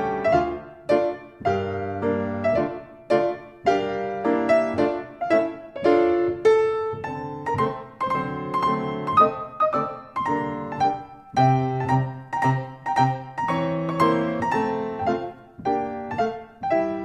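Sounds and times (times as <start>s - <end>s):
piano playing on a steady beat: 0.0s - 17.0s.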